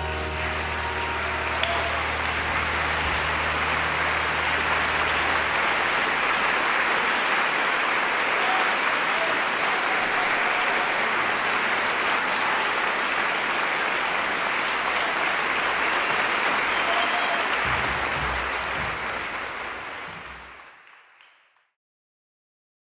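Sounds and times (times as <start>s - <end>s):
audience applauding: 0.0s - 21.7s.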